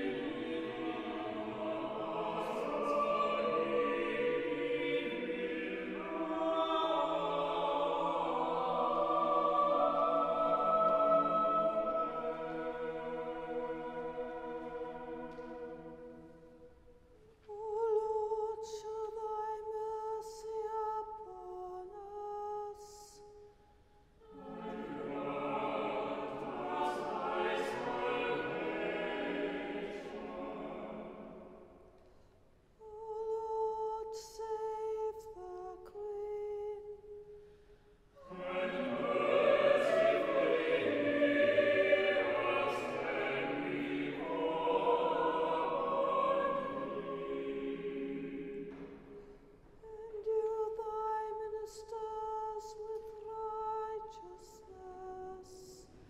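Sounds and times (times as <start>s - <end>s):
choir singing in harmony: 0.0s - 23.2s, 24.2s - 32.1s, 38.2s - 56.0s.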